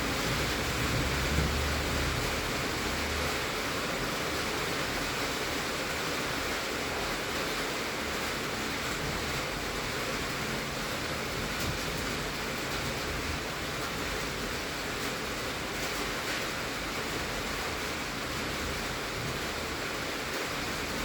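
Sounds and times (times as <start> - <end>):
heavy rain on a tin roof: 0.0 - 21.0.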